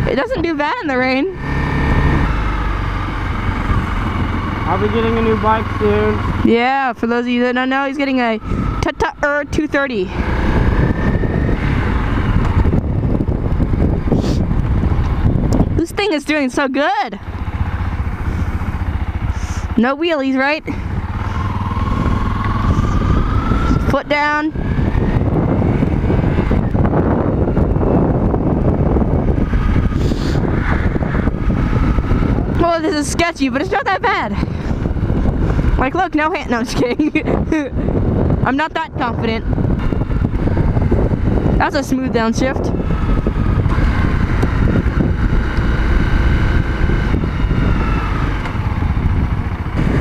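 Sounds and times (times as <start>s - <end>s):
dirt bike engine running: 0.0s - 50.0s
wind rushing over microphone: 0.0s - 50.0s.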